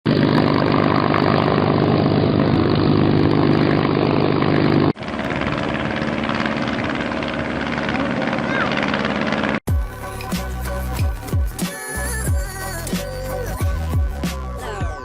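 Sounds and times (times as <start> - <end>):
propeller motor buzzing hum: 0.1 - 14.1.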